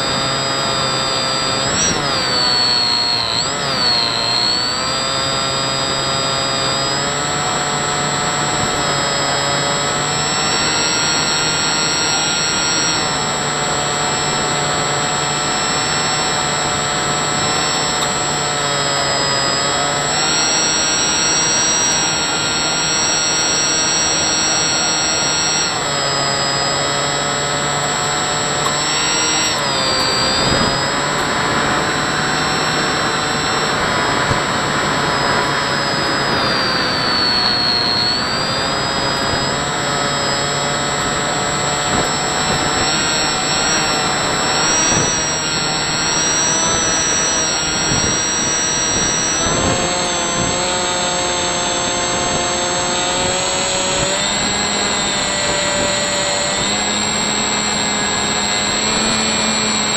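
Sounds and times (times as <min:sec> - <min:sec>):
model plane motor whining: 0:00.0 - 0:59.9.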